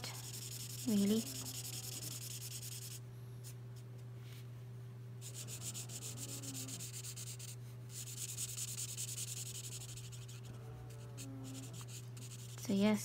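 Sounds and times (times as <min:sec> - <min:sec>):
marker scratching on paper: 0:00.1 - 0:03.0, 0:05.2 - 0:12.8.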